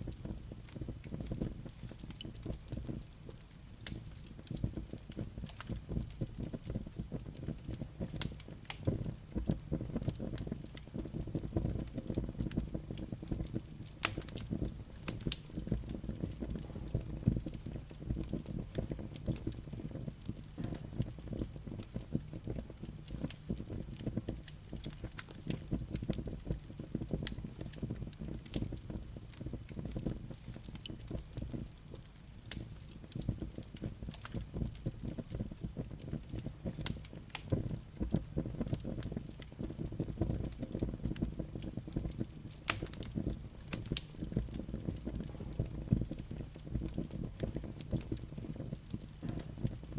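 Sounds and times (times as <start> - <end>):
fire flames rumbling: 0.0 - 49.9
wood crackling and popping: 0.0 - 49.9.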